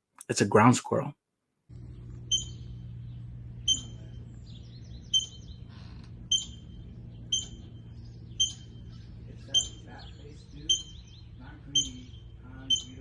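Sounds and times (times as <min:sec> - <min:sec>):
steady low hum: 0:01.7 - 0:13.0
ground squirrel chirping: 0:01.8 - 0:13.0.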